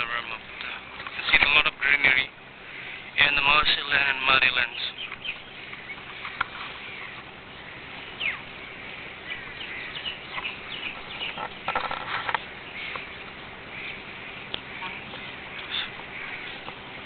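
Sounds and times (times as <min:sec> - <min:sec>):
birds chirping: 0:00.0 - 0:17.0
faint outdoor hiss: 0:00.0 - 0:17.0
harsh bird calls: 0:00.0 - 0:17.0.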